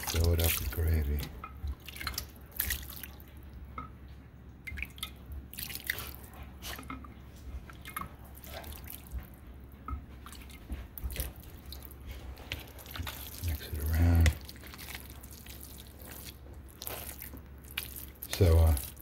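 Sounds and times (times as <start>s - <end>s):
gravy dripping and squishing: 0.0s - 19.0s.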